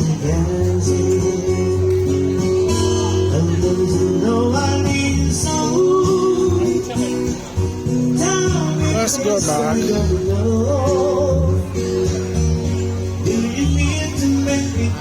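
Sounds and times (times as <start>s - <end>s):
live band with guitar and singing: 0.0s - 15.0s.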